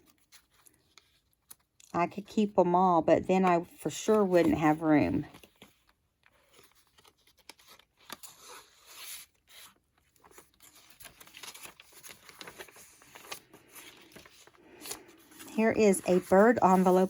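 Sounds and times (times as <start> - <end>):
paper rustling: 0.0 - 2.3, 3.7 - 17.0.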